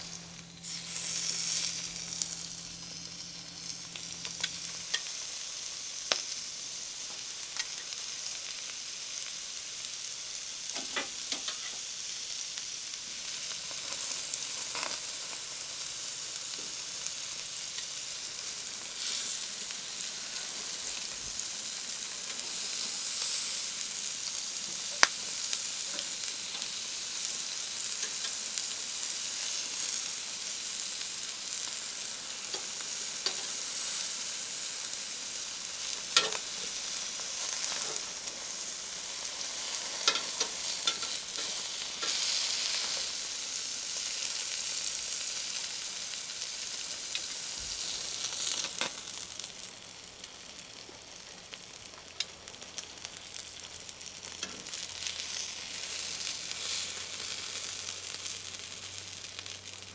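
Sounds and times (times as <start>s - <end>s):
food frying and sizzling: 0.0s - 59.9s.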